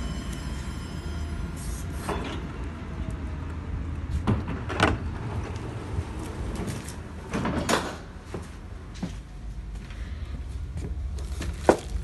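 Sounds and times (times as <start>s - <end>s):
low hum inside rail car: 0.0s - 12.0s.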